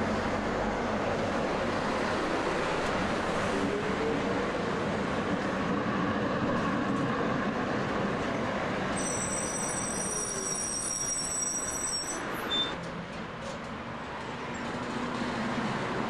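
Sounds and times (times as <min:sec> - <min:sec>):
tram wheels rolling on rails: 0:00.0 - 0:16.0.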